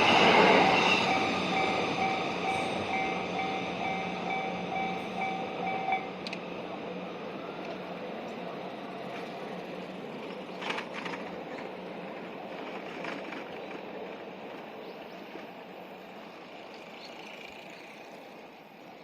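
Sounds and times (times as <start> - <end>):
passing train rumble: 0.0 - 19.0.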